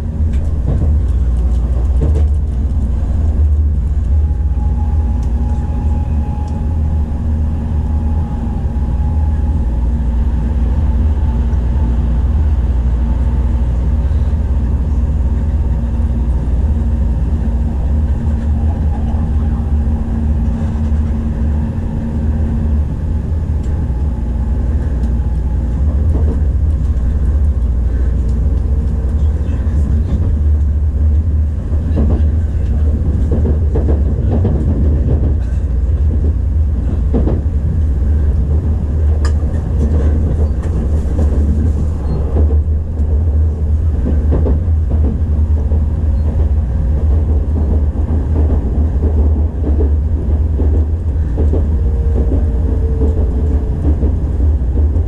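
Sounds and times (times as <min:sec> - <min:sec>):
deep train rumble: 0:00.0 - 0:55.0.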